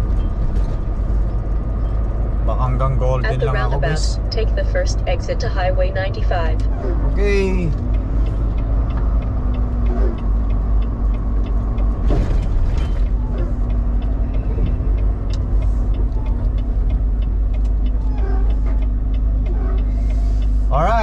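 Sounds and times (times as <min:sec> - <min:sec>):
truck engine droning: 0:00.0 - 0:21.0
turn signal ticking: 0:00.0 - 0:21.0.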